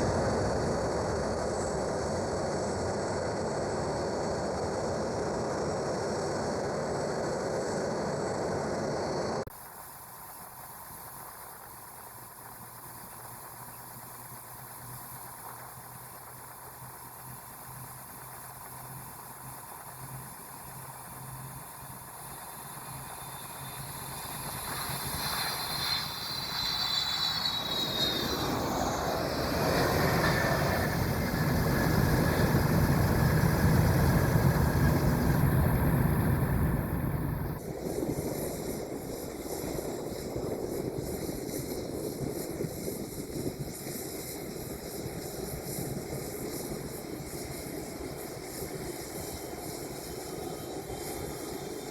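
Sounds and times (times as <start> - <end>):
jet engines rumbling with whine: 0.0 - 51.9.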